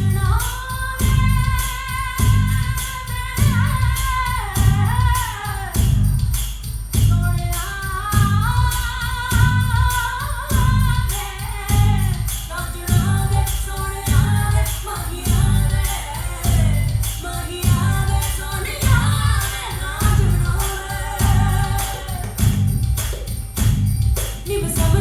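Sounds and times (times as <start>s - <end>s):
song with sung vocals over beat: 0.0s - 25.0s.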